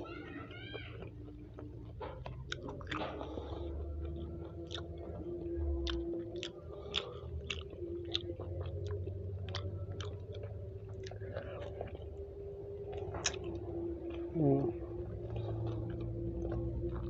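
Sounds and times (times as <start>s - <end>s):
chewing with wet mouth clicks: 0.0s - 17.0s
steady low hum: 0.0s - 17.0s.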